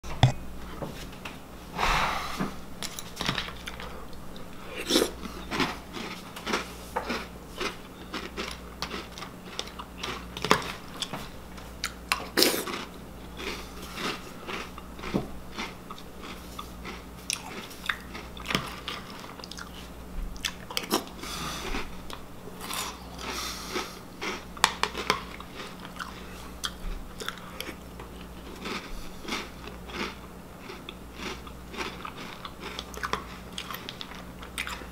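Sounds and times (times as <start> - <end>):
person chewing crunchy cereal: 2.1 - 34.9.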